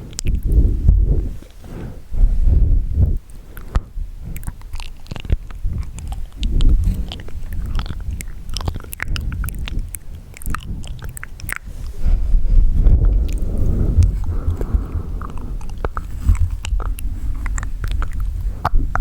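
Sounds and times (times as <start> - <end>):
soft low swells: 0.0 - 19.0
wet mouth clicks and smacks: 0.1 - 0.7, 3.0 - 19.0.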